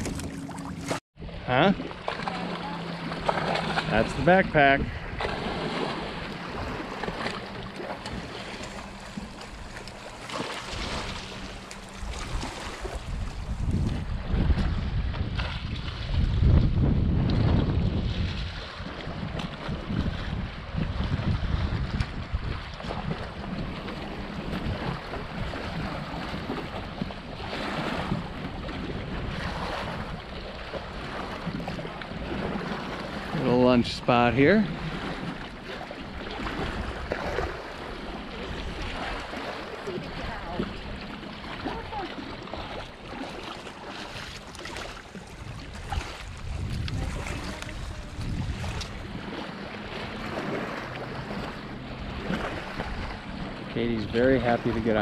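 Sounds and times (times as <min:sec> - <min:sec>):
water splashing against hulls: 0:00.0 - 0:55.0
wind buffeting microphone: 0:02.3 - 0:55.0.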